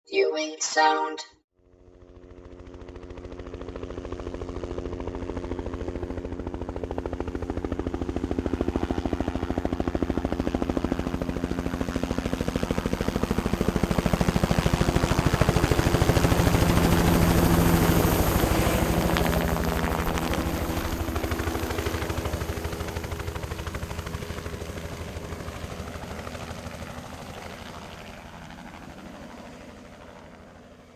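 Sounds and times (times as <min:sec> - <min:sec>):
helicopter rotor beat: 0:02.4 - 0:30.9.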